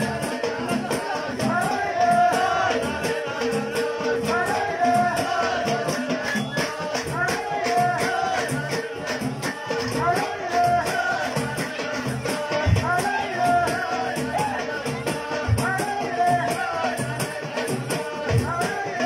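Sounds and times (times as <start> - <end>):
men singing in chorus: 0.0 - 19.0
steady percussive beat: 0.0 - 19.0.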